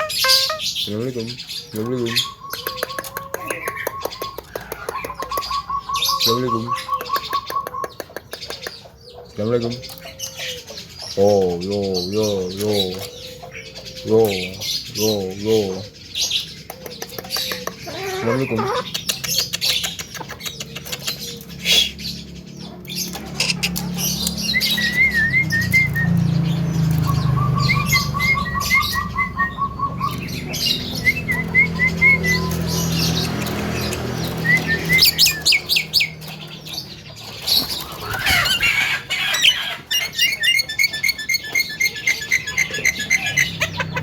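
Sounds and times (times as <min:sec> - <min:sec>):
myna bird singing: 0:00.0 - 0:44.0.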